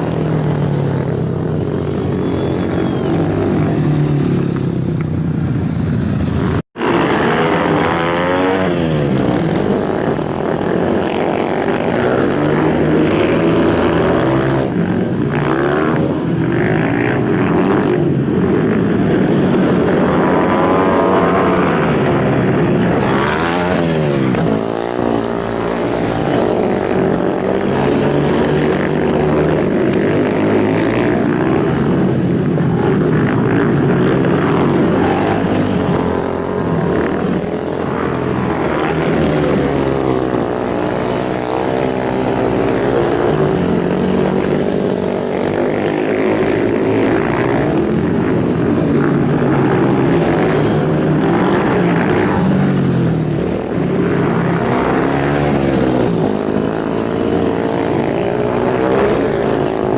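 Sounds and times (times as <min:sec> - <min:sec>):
superbike engines revving: 0:00.0 - 0:59.9.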